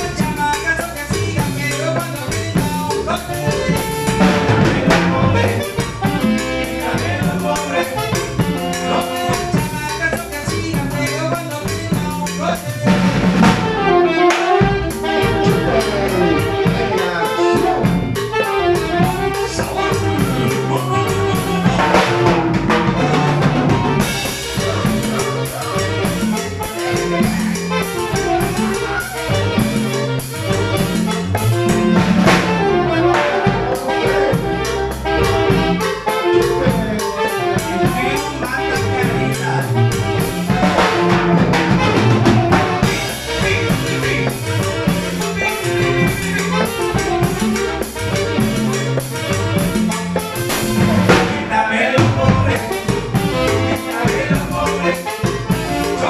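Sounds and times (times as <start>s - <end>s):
brass-like lead melody: 0.0s - 56.0s
drum kit and congas beat: 0.0s - 56.0s
electric bass line: 0.0s - 56.0s.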